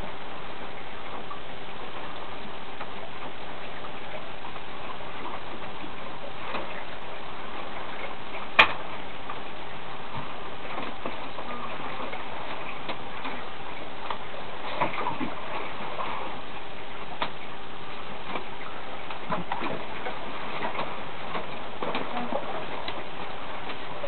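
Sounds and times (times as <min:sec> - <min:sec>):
water rushing along boat hull: 0:00.0 - 0:24.0
boat creaks and knocks: 0:00.6 - 0:24.0.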